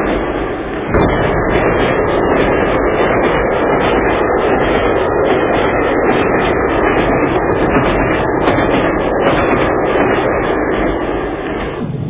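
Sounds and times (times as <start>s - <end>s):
model train rumbling clatter: 0.0s - 12.0s.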